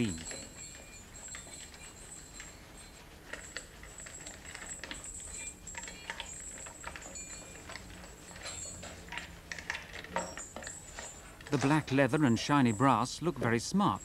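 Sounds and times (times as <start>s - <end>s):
small knocks and clinks: 0.0s - 12.2s.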